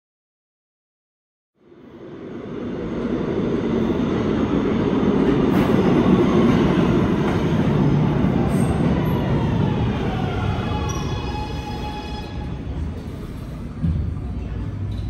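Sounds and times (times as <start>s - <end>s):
subway train wheels on rails: 1.6s - 15.0s.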